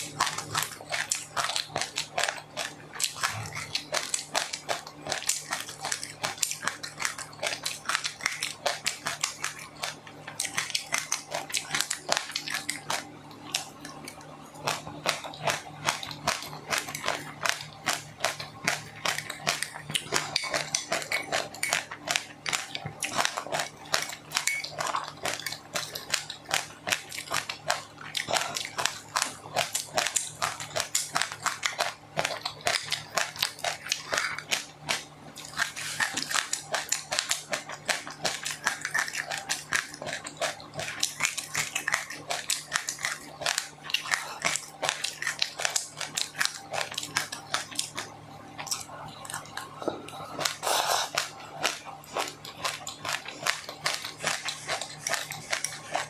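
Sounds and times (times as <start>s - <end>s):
chewing crunchy food: 0.0s - 56.0s.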